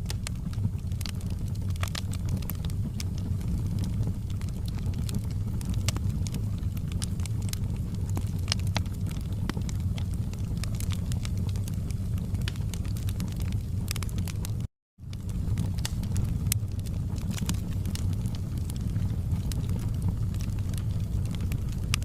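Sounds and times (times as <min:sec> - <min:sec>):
fire crackling and snapping: 0:00.0 - 0:22.0
low rumble of flames: 0:00.0 - 0:22.0.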